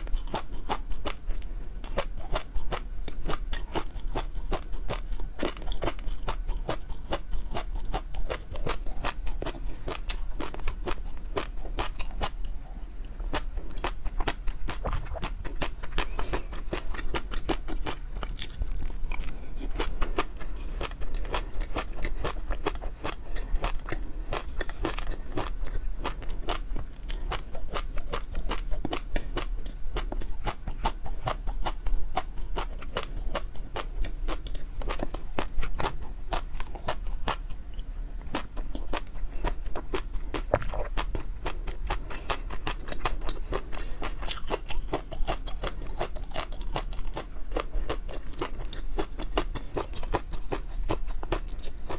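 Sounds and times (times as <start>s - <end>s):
crunchy chewing of food: 0.0s - 51.9s.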